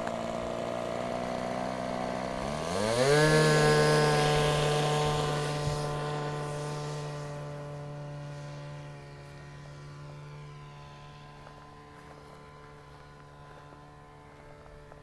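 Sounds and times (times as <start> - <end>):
model airplane engine revving: 0.0 - 14.9.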